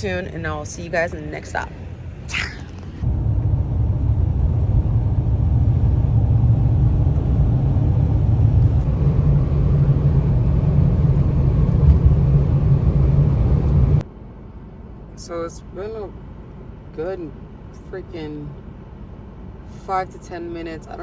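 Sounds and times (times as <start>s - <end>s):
van engine and road noise: 0.0s - 21.0s.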